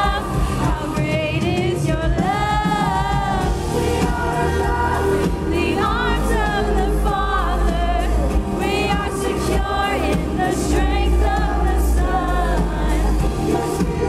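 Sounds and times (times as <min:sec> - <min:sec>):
live worship band: 0:00.0 - 0:14.0
steady bass: 0:00.0 - 0:14.0
sung vocals: 0:00.0 - 0:14.0.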